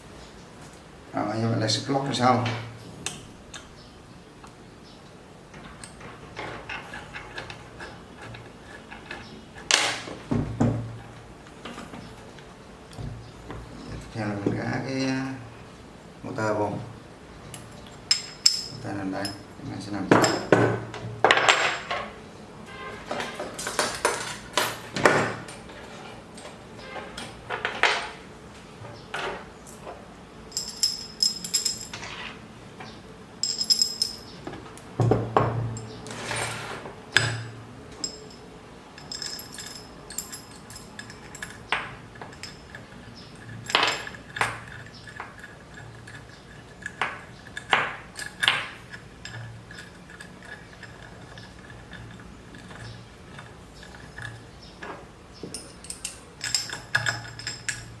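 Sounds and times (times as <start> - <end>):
metal parts clinking and knocking: 5.5 - 14.6, 17.5 - 19.5, 20.1 - 28.3, 30.5 - 58.0.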